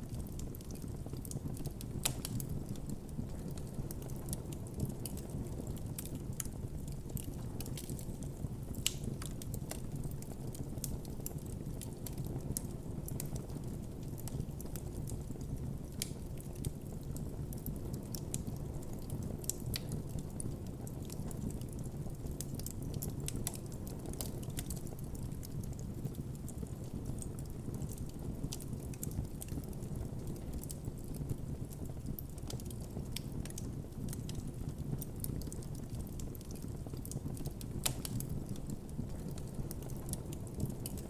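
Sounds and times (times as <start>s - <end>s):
campfire crackling and popping: 0.0s - 41.0s
fire low rumble: 0.0s - 41.0s.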